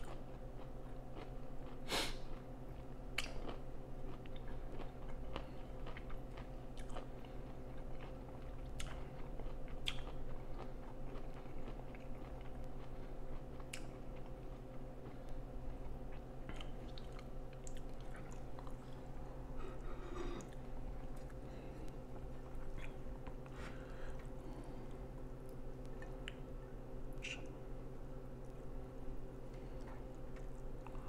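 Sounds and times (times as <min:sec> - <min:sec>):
person chewing food: 0:00.0 - 0:27.6, 0:28.4 - 0:31.0
steady low hum: 0:00.0 - 0:31.0.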